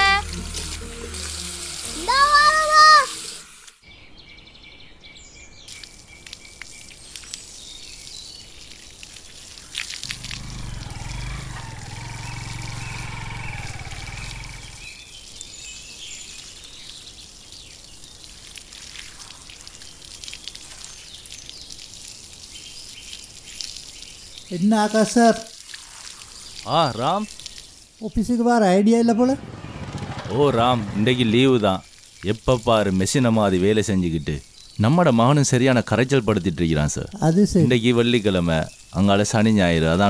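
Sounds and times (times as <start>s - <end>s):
hose water spraying on plants: 0.0s - 3.8s, 5.7s - 28.3s, 29.8s - 34.4s, 35.2s - 40.0s.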